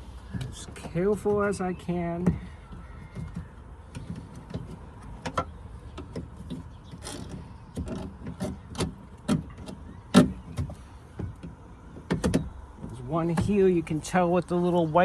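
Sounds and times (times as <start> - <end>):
plastic clicks and creaks: 0.3 - 13.6.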